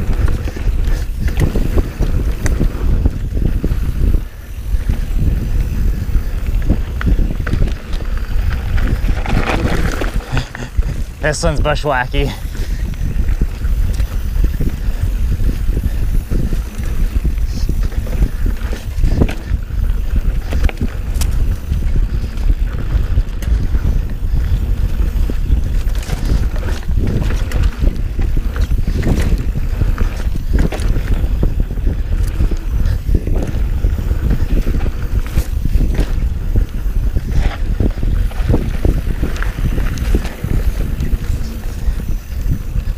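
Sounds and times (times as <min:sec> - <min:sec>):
bike clicks and rattles: 0:00.0 - 0:42.9
tyres rumbling on dirt trail: 0:00.0 - 0:42.9
wind buffeting microphone: 0:00.0 - 0:42.9.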